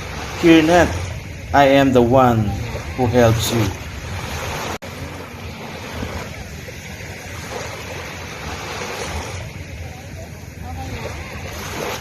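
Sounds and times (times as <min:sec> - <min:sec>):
waves washing onto beach: 0:00.0 - 0:12.0
wind buffeting microphone: 0:00.0 - 0:12.0.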